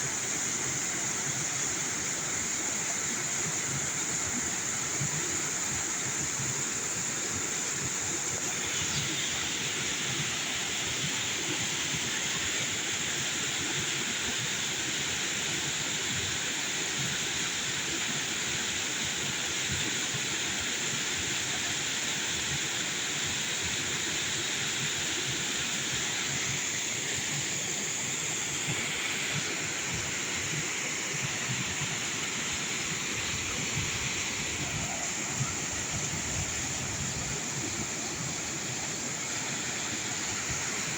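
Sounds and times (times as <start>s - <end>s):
waterfall roaring: 0.1s - 40.9s.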